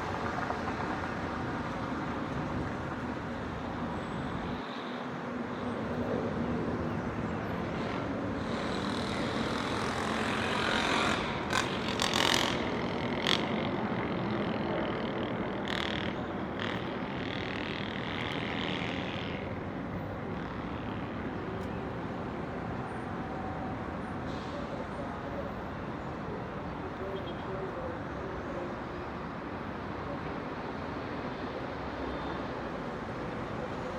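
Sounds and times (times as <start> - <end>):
rumble of road traffic: 0.0 - 33.9.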